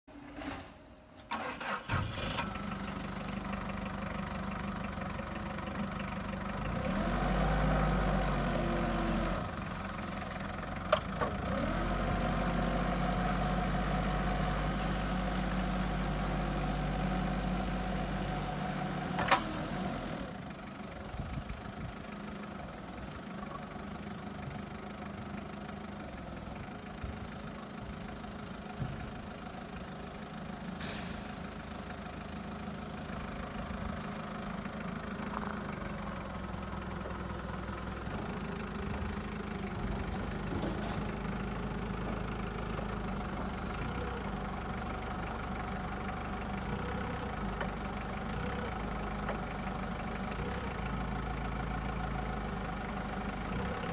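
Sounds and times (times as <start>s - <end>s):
diesel engine starting and idling: 0.1s - 53.9s.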